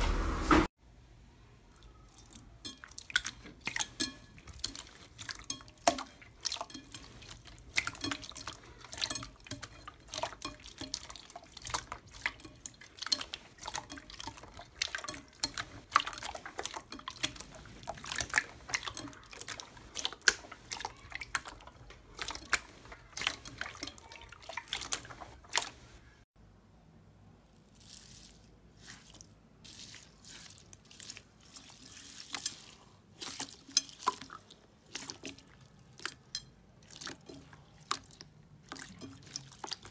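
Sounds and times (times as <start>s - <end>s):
hands squelching runny slime: 1.7s - 26.2s, 27.5s - 39.9s.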